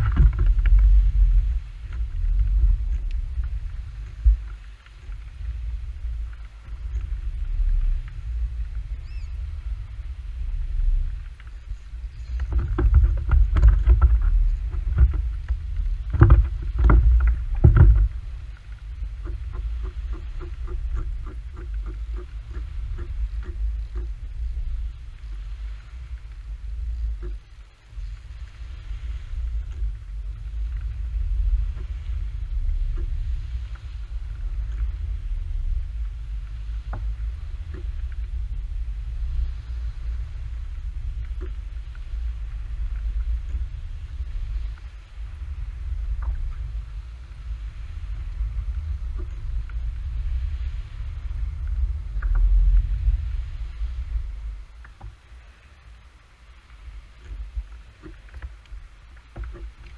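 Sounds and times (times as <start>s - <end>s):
low microphone rumble: 0.0s - 59.9s.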